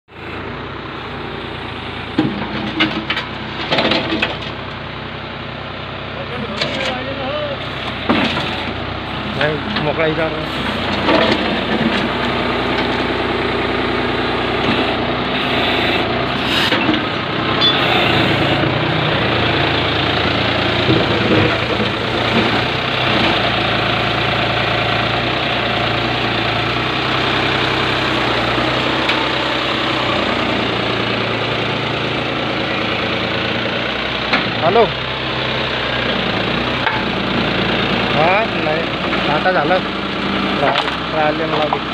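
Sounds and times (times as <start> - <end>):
tractor diesel engine idling: 0.1 - 41.9.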